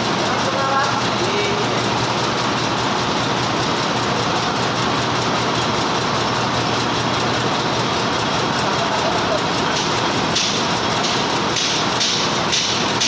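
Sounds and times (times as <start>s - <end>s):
machine running: 0.0s - 13.0s.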